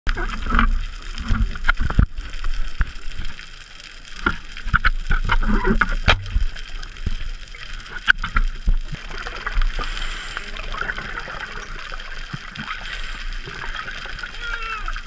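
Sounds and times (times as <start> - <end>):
sharp underwater clicks: 0.1 - 15.0
water bubbling underwater: 0.1 - 15.0.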